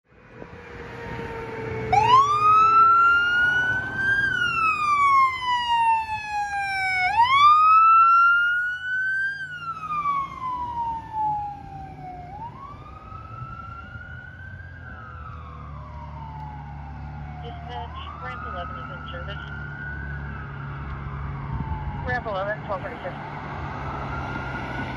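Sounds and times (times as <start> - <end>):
fire truck siren wailing: 0.1 - 24.9.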